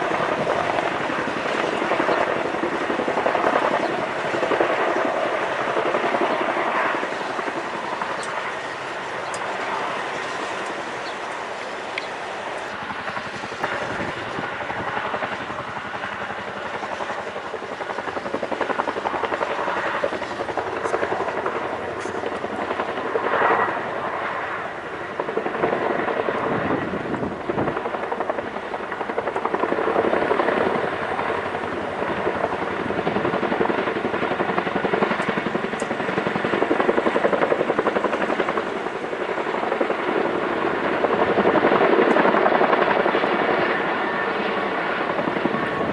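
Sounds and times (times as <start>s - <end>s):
helicopter rotors chopping: 0.0s - 45.9s.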